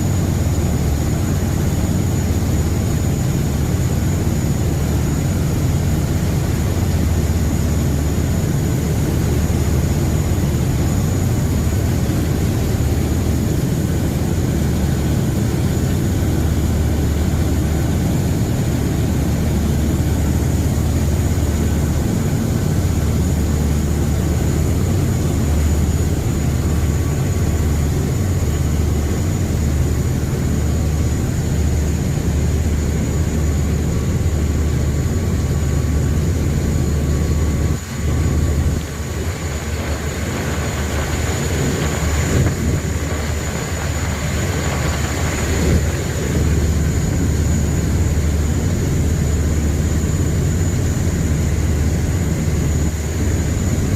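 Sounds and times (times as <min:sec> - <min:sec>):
boat engine drone: 0:00.0 - 0:53.9
constant rushing noise: 0:00.0 - 0:53.9.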